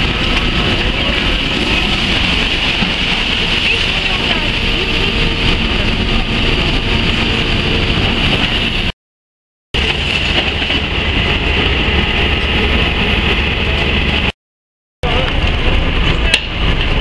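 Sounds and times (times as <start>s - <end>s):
excavator engine rumbling: 0.0s - 9.0s, 9.8s - 14.4s, 15.0s - 17.0s.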